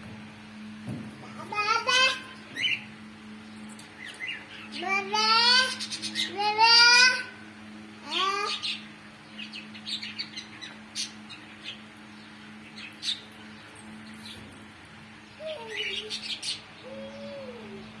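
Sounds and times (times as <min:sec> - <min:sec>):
steady low hum: 0:00.0 - 0:18.0
small birds chirping: 0:02.0 - 0:07.0, 0:08.0 - 0:18.0.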